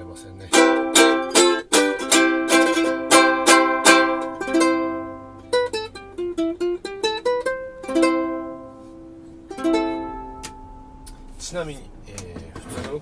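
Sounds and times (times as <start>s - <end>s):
ukulele strummed and plucked: 0.0s - 11.3s.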